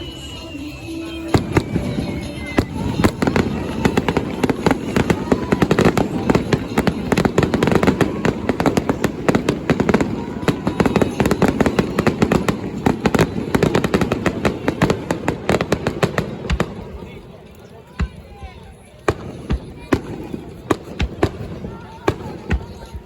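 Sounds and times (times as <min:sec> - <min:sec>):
fireworks bangs and crackles: 0:00.3 - 0:23.0.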